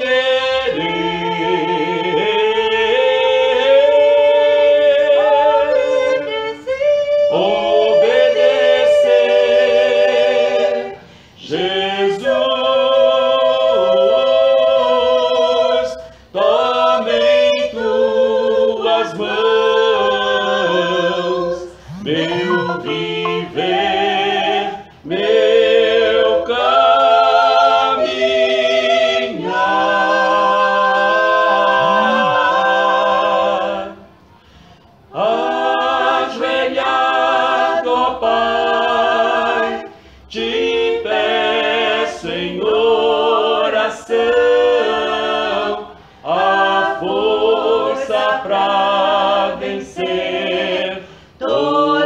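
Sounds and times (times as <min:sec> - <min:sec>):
people singing a cappella hymn: 0:00.0 - 0:52.0.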